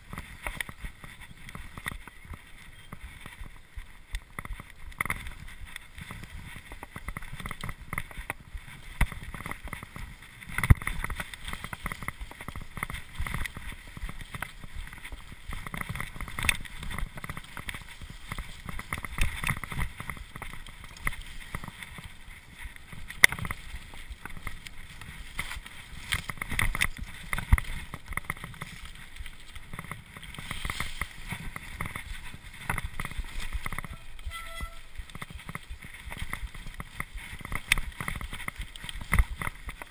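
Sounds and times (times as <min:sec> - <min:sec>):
bike rattling over bumps: 0:00.0 - 0:39.9
bike tyres rumbling: 0:00.0 - 0:39.9.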